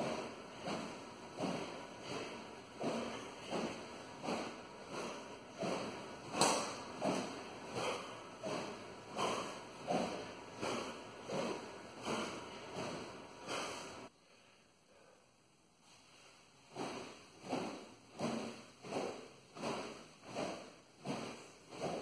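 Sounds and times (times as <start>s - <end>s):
sword whooshing through air: 0.0s - 14.1s, 16.7s - 22.0s.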